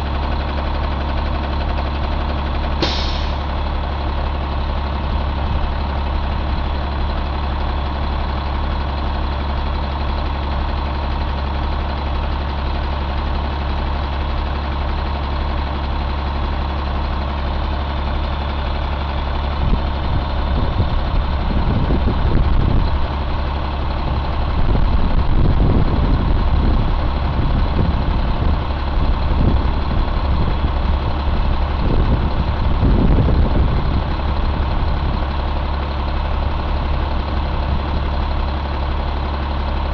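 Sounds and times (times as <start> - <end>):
diesel engine idling: 0.0 - 39.9
low rumbling: 0.0 - 39.9.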